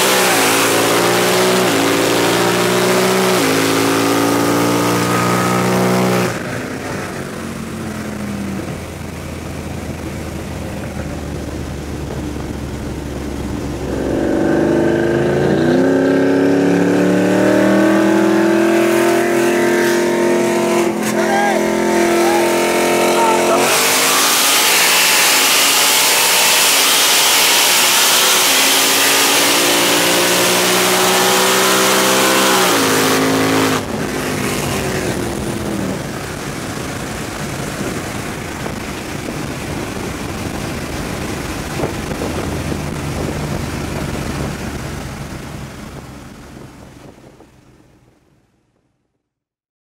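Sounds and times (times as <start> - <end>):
car engine at full throttle: 0.0 - 48.6
wind noise: 8.2 - 48.3.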